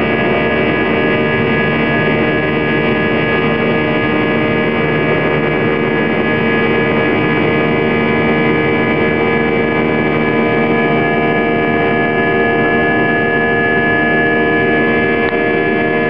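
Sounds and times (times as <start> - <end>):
jet engine drone with whining tones: 0.0 - 16.0.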